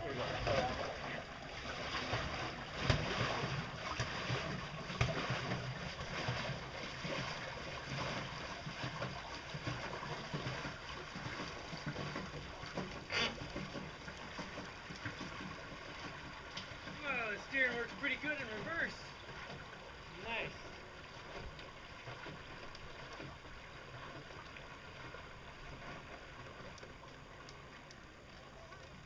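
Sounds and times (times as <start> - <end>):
water churning and splashing: 0.0 - 29.0.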